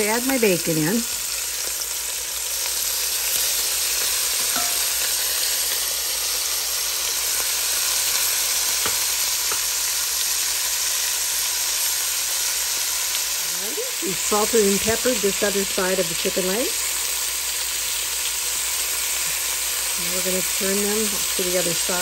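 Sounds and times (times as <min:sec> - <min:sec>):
meat sizzling in oil: 0:00.0 - 0:22.0.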